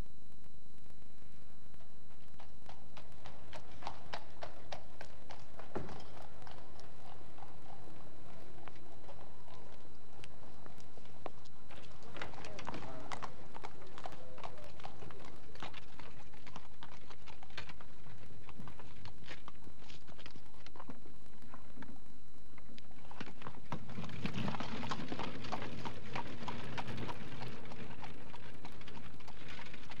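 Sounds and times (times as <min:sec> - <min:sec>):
horse hooves clopping: 0:01.7 - 0:30.0.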